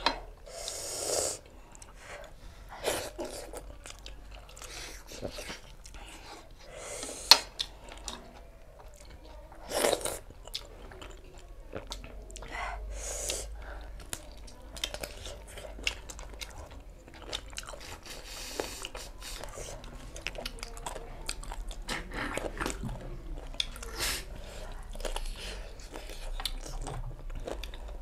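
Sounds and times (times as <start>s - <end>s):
chewing and crunching food: 1.4s - 28.0s.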